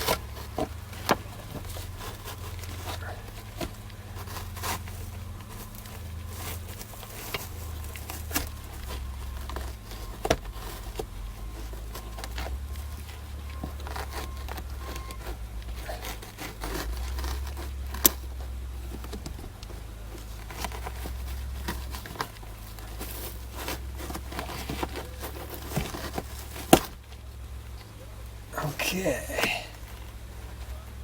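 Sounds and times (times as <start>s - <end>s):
rustling of wiring: 0.0s - 31.0s.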